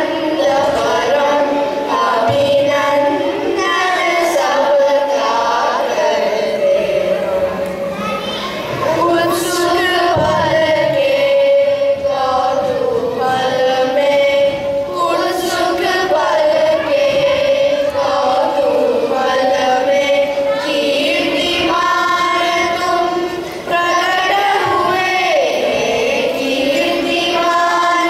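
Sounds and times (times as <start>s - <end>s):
children's chorus singing: 0.0s - 28.0s.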